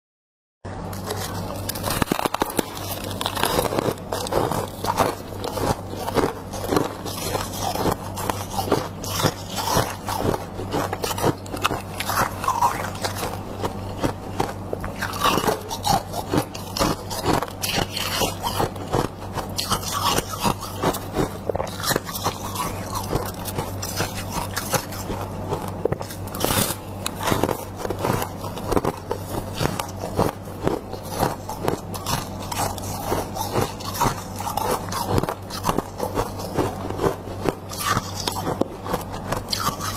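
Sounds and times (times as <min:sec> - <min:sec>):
frost being chewed: 0:00.8 - 0:39.9.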